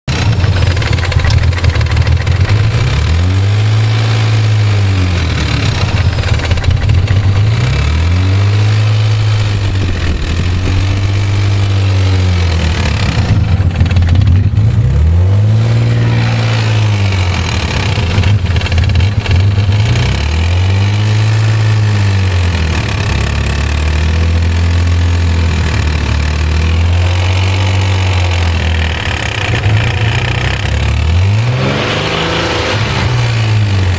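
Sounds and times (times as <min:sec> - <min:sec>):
car engine revving: 0:00.0 - 0:33.9
engine ticking: 0:00.1 - 0:33.9.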